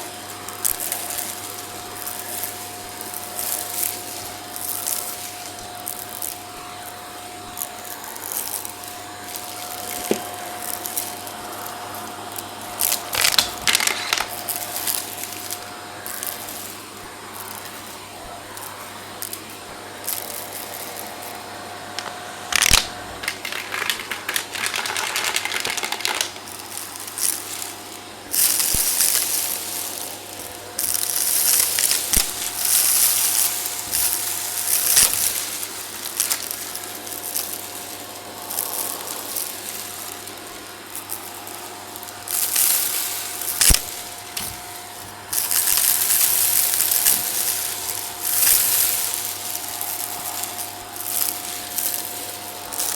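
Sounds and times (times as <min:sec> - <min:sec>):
vacuum cleaner whining: 0:00.0 - 0:52.9
debris crackling into vacuum: 0:00.4 - 0:52.9.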